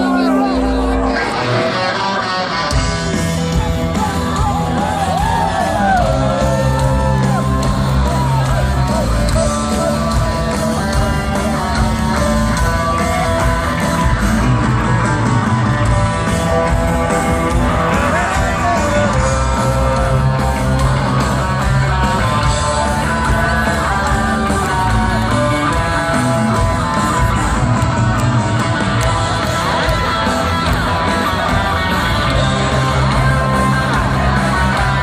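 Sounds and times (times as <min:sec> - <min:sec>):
bass guitar: 0:00.0 - 0:35.0
distorted electric guitars: 0:00.0 - 0:35.0
drums: 0:00.0 - 0:35.0.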